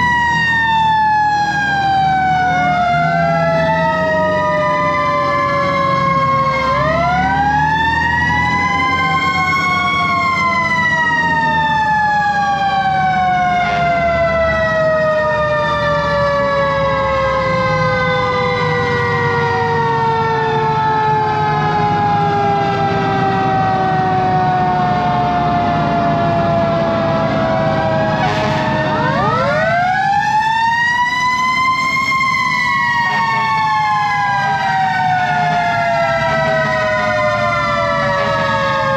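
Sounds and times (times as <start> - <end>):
fire engine sirens winding: 0.0 - 38.9.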